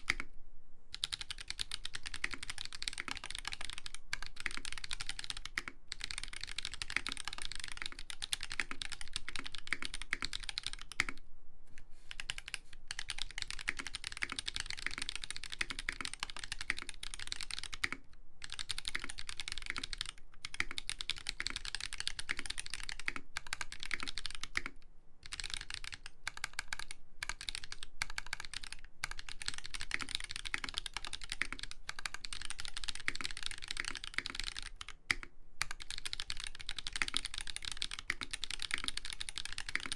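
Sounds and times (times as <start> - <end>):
fast mechanical keyboard typing: 0.0 - 0.3, 0.9 - 11.2, 12.1 - 39.9.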